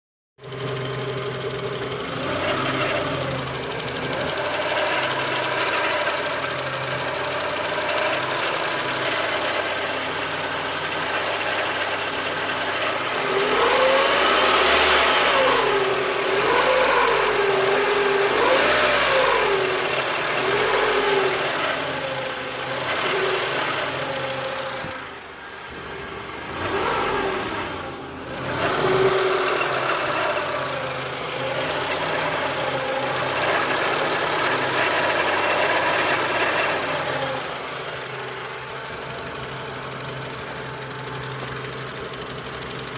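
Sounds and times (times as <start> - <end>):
car engine idling and revving: 0.4 - 42.9.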